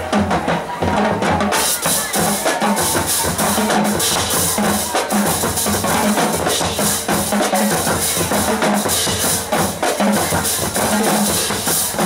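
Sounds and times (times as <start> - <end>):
drumline drums: 0.0 - 12.0
marching band brass: 0.0 - 12.0.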